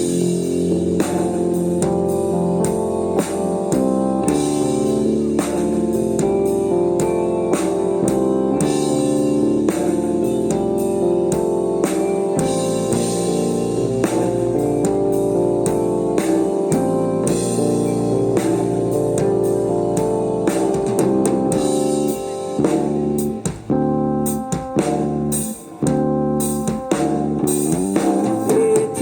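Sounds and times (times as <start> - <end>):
drum kit: 0.0 - 29.0
sustained keyboard chords: 0.0 - 29.0.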